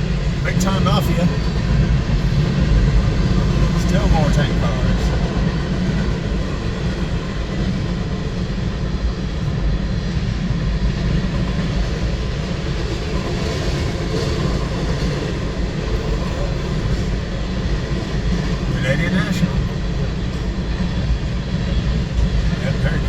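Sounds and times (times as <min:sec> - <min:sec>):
train wheels rolling on rail: 0:00.0 - 0:23.0.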